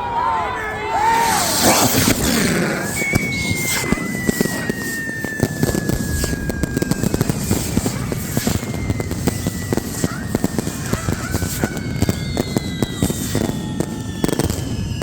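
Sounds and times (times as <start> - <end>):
firework whistle falling in pitch: 0.6 - 15.0
fireworks popping and crackling: 1.0 - 15.0.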